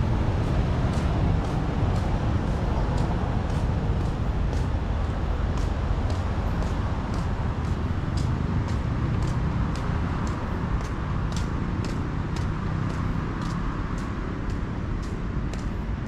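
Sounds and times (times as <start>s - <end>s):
low rumble of street traffic: 0.0s - 16.0s
light high ticks: 0.3s - 15.8s.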